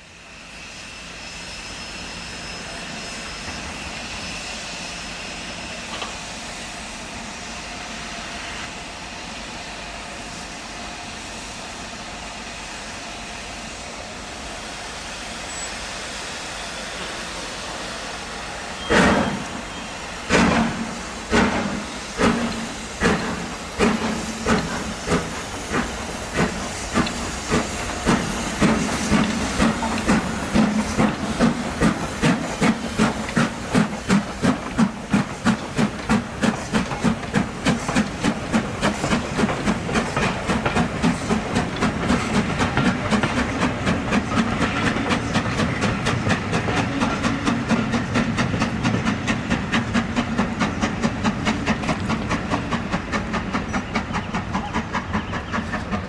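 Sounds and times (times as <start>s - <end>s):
steam locomotive chuffing: 0.0s - 56.0s
steam locomotive hissing: 0.0s - 56.0s.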